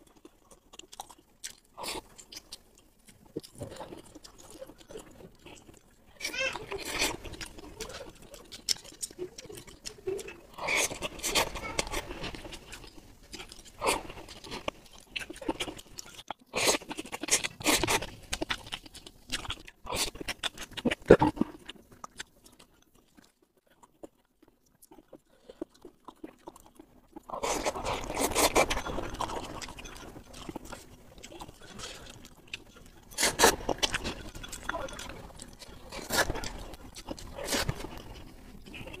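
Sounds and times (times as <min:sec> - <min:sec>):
chewing and slurping noodles: 0:00.0 - 0:39.0.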